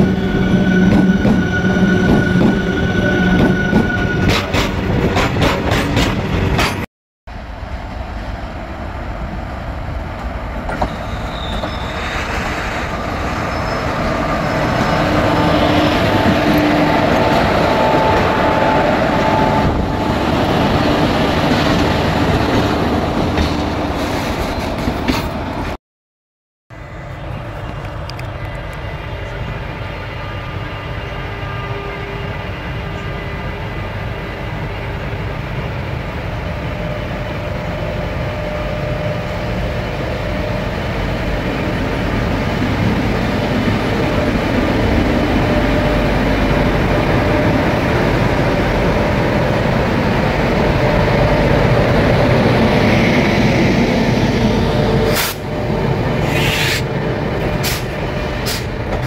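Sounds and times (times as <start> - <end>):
electric locomotive whine: 0.0 - 5.1, 7.3 - 23.2, 26.7 - 59.0.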